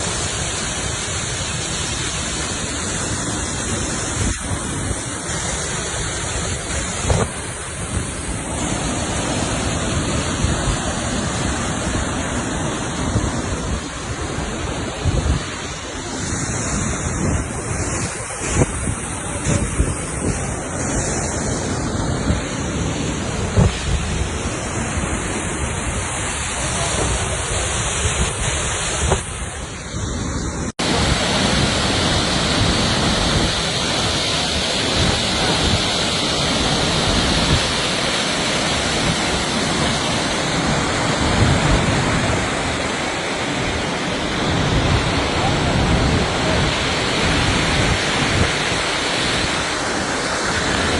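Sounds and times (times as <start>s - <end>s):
waterfall: 0.0s - 50.9s
wind thumping on microphone: 2.0s - 50.9s.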